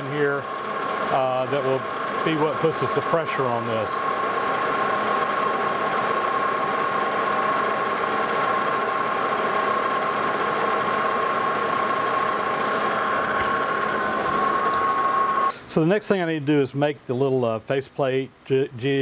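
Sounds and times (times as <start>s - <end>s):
drill cutting metal: 0.0s - 15.5s
metal lathe whining: 0.0s - 15.5s.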